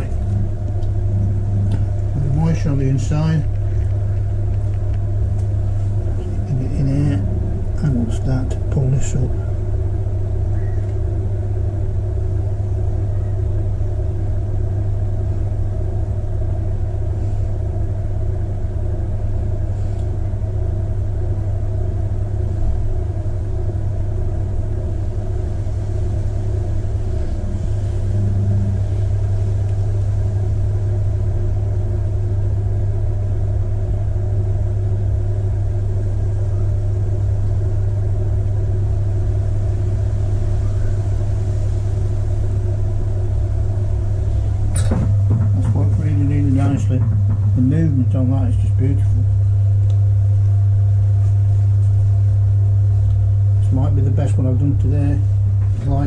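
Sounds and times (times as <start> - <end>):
potter's wheel motor hum: 0.0 - 56.0.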